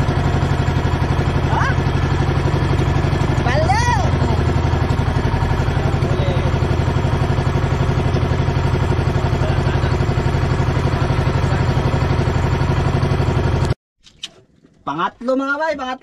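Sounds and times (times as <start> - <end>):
boat engine throbbing: 0.0 - 13.8.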